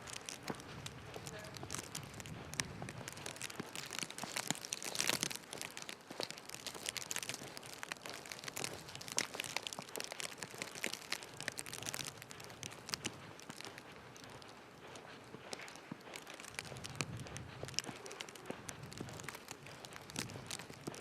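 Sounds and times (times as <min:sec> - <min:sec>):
footsteps crunching in snow: 0:00.0 - 0:21.0.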